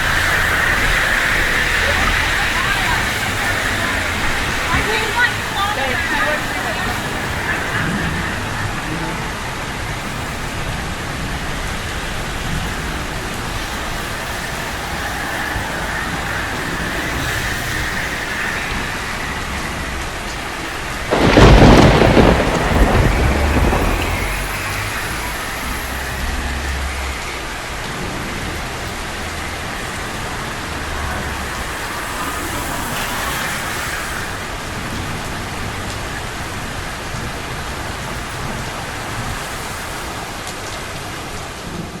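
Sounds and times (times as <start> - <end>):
thunder clap rumbling: 0.0 - 39.8
steady rain falling: 0.0 - 42.0.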